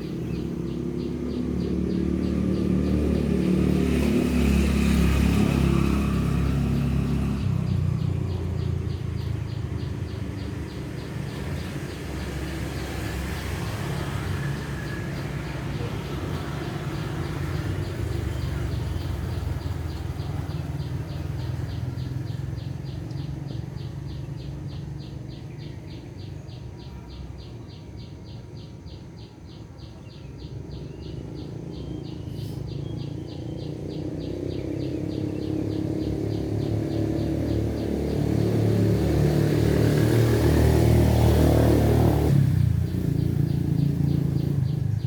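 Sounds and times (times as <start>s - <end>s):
vehicle engine rumble: 0.0s - 27.4s, 28.8s - 45.0s.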